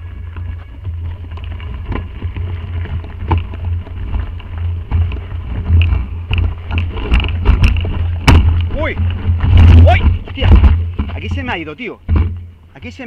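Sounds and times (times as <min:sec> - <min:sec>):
wind buffeting microphone: 0:00.0 - 0:11.5
bike rattling over stones: 0:00.0 - 0:13.0.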